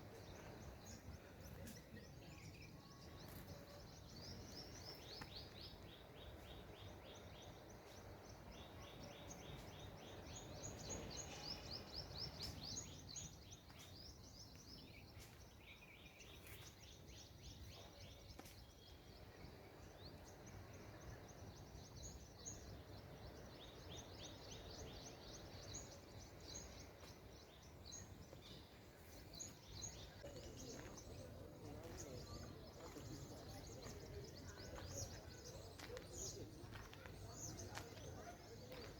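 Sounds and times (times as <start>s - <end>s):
birds chirping: 0.0s - 38.9s
faint low background noise: 0.0s - 38.9s.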